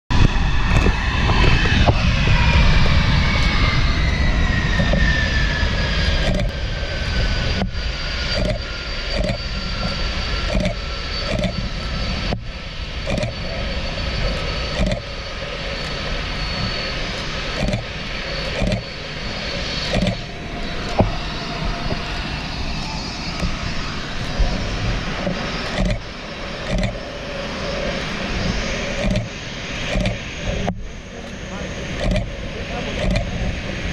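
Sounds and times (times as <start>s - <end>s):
jet engine whine: 0.1s - 33.9s
low rumble: 0.1s - 33.9s.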